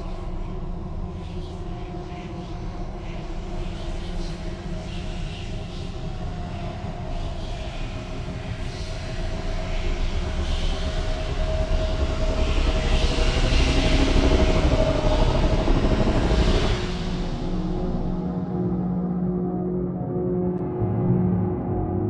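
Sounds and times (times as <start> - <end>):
low rumbling drone: 0.0 - 22.0.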